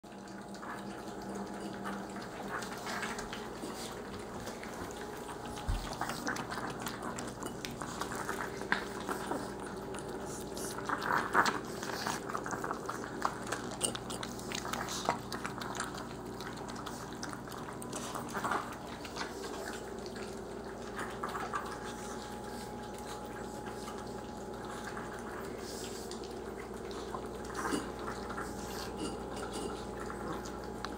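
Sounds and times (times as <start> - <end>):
dogs chewing food: 0.0 - 30.9.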